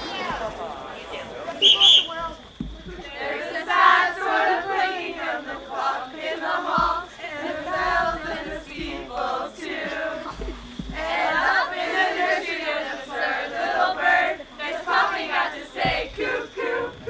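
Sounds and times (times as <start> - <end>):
choir singing: 2.8 - 17.0.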